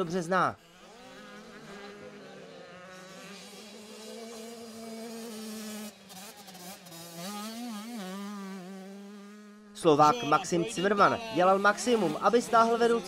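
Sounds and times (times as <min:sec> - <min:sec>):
motocross bikes buzzing: 0:00.0 - 0:13.0.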